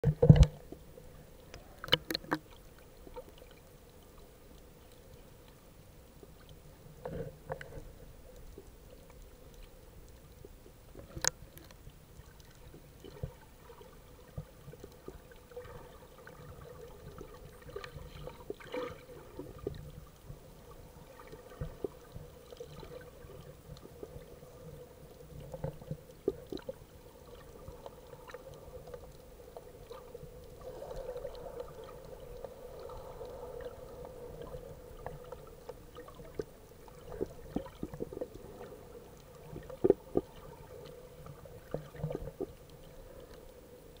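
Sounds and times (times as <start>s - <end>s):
faint steady hum: 0.0s - 44.0s
muffled underwater water movement: 0.0s - 44.0s.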